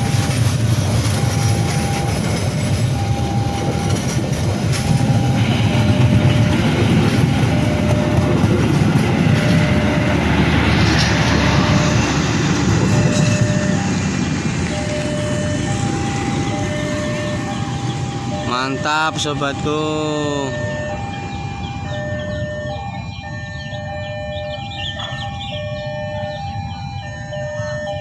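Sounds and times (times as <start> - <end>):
train carriages rumbling on rails: 0.0 - 28.0.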